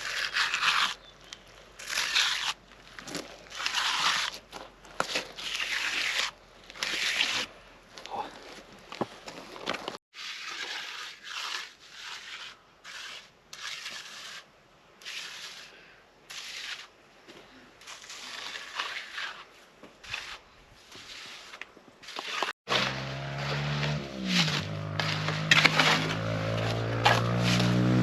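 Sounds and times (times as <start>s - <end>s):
rough scraping strokes: 0.0s - 7.6s, 10.1s - 17.0s, 17.8s - 28.0s.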